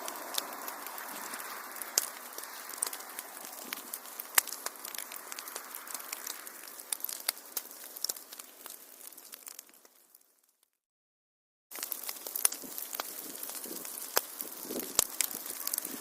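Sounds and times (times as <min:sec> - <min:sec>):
wood fire crackling: 0:00.0 - 0:10.7, 0:11.7 - 0:16.0.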